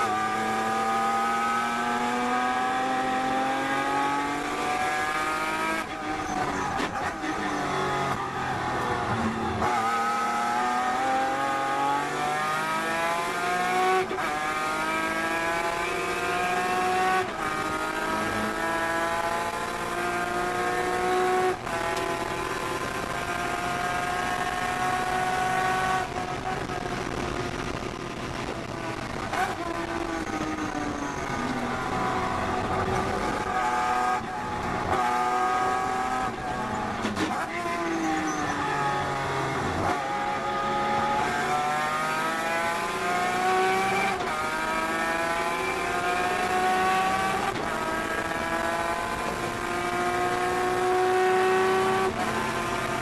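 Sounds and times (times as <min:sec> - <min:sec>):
race car engine at full throttle: 0:00.0 - 0:53.0.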